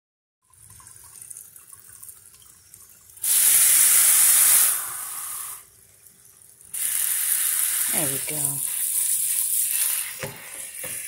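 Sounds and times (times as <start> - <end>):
faucet water rushing onto greens: 0.5 - 11.0.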